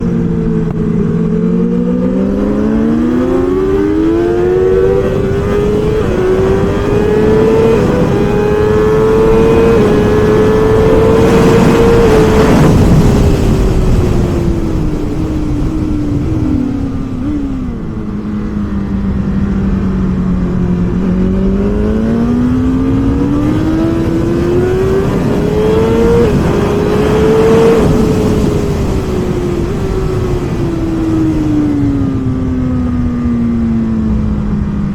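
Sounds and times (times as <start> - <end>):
motorcycle engine revving: 0.0 - 34.9
wind noise: 0.0 - 34.9.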